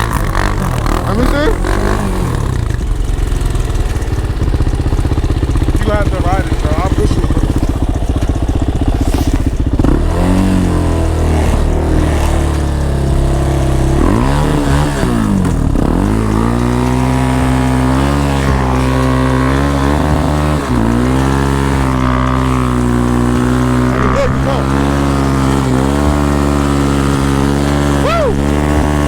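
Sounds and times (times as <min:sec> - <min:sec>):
atv engine revving under load: 0:00.0 - 0:29.0.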